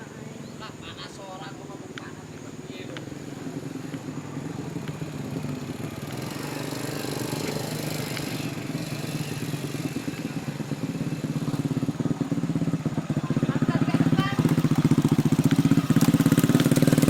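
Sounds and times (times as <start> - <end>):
small engine running: 1.0 - 17.0.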